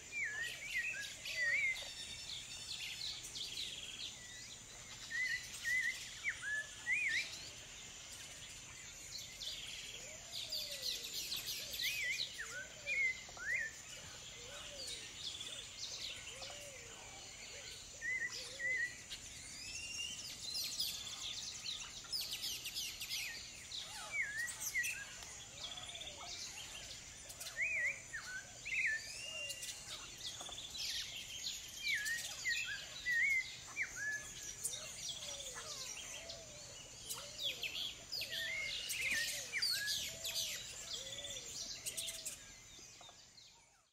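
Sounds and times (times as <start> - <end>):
birds chirping and whistling: 0.0 - 43.9.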